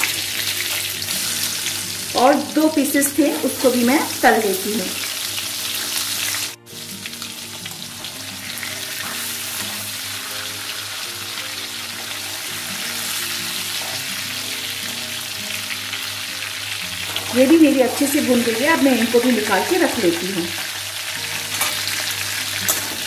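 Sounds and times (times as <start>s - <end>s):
faint background music: 0.0s - 23.0s
fish sizzling in oil: 0.0s - 23.0s.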